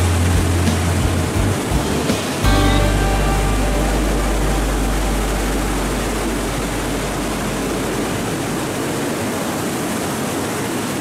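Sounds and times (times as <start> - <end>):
deep low rumble: 0.0 - 9.2
waves breaking: 0.0 - 11.0.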